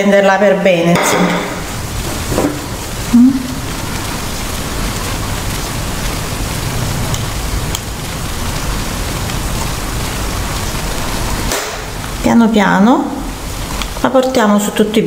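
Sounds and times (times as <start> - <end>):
steady rushing noise: 1.2 - 14.1.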